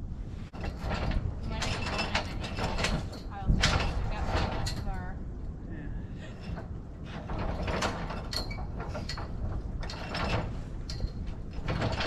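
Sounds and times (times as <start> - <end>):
low steady rumble: 0.0 - 12.0
mechanical rattling and clicking: 0.5 - 5.2, 6.2 - 12.0.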